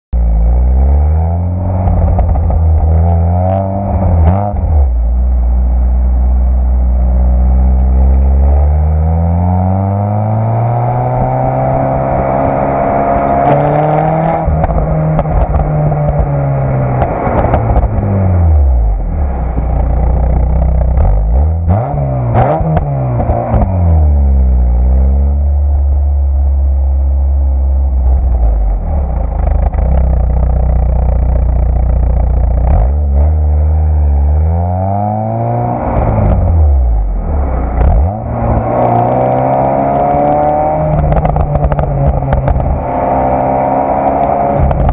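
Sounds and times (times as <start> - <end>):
car engine revving: 0.2 - 44.9.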